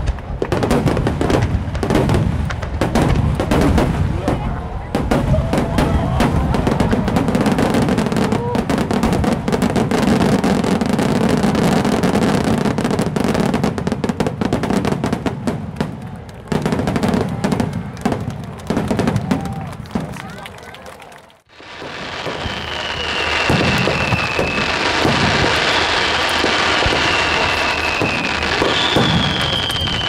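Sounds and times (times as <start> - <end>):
fireworks booming and crackling: 0.0 - 30.0.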